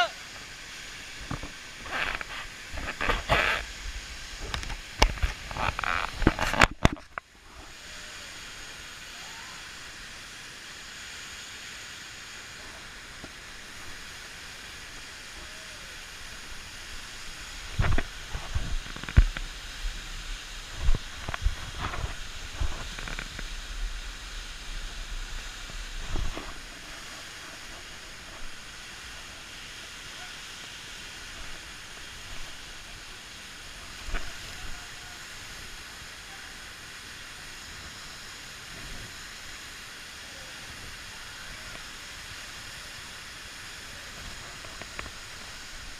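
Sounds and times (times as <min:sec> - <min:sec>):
waterfall rushing water: 0:00.0 - 0:45.9.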